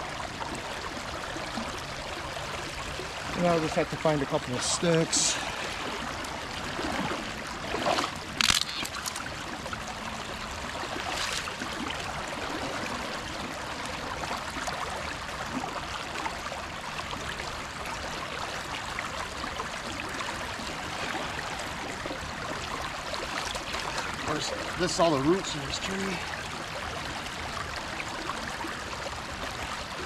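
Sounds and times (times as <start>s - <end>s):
creek water rushing and trickling: 0.0s - 30.0s.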